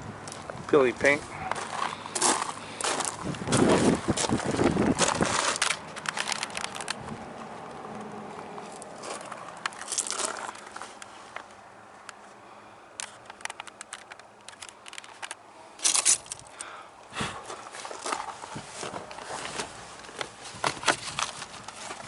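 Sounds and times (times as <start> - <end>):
handling clicks and rustles: 0.2 - 16.7, 17.4 - 22.0.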